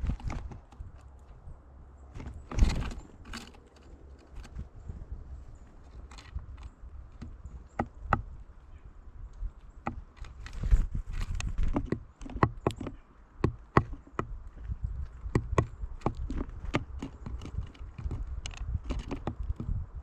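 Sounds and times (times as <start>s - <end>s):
birds pecking on wood: 0.0s - 20.0s.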